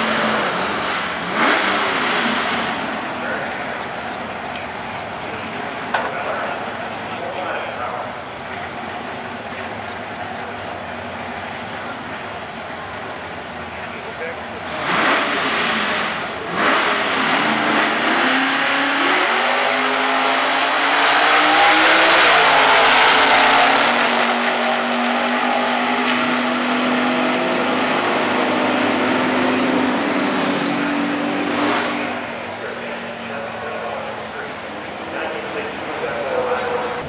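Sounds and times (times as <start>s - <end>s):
drag car engines accelerating: 0.0s - 37.0s.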